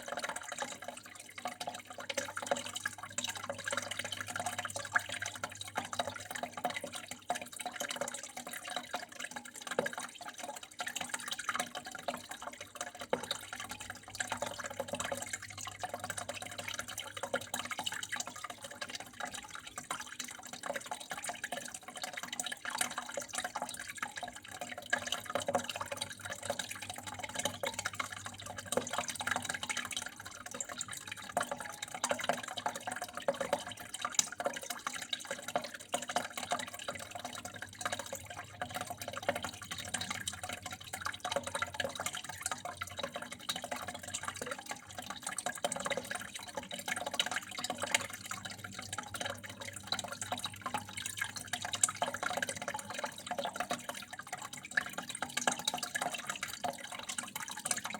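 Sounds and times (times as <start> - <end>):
water flowing and trickling: 0.0 - 57.9.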